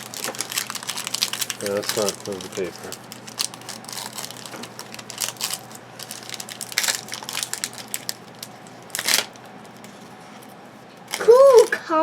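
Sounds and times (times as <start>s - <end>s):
wrappers crinkling and tearing: 0.0s - 11.9s.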